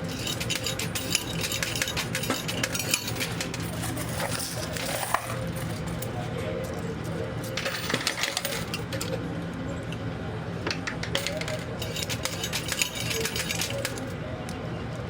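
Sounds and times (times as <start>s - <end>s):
coins clinking: 0.0s - 9.2s, 10.9s - 14.2s.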